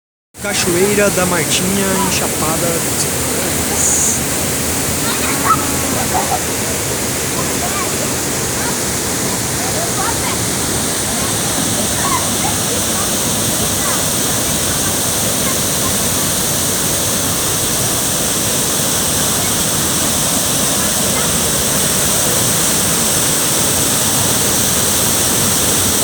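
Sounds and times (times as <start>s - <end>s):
waterfall rushing: 0.4s - 26.0s.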